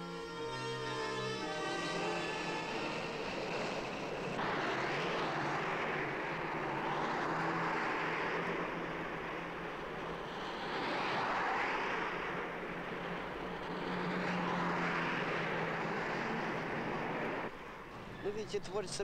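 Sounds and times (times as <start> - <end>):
traffic roar in tunnel: 0.0 - 19.0.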